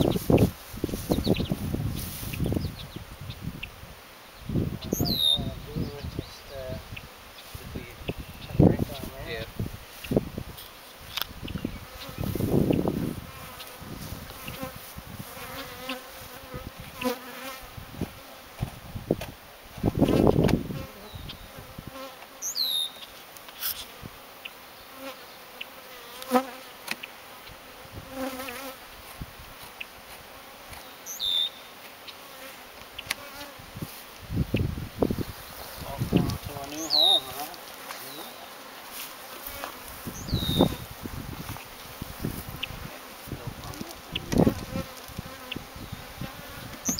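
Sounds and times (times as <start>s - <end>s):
honeybees buzzing: 0.0s - 46.9s.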